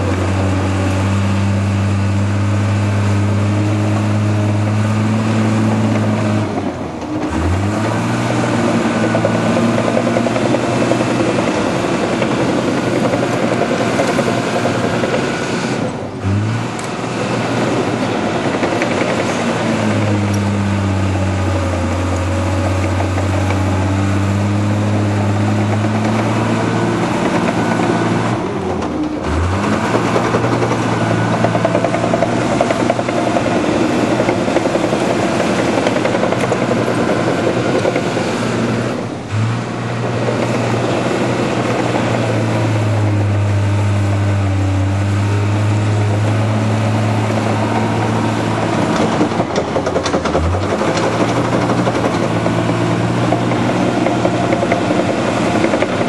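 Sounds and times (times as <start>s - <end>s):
dozer diesel engine under load: 0.0s - 56.0s.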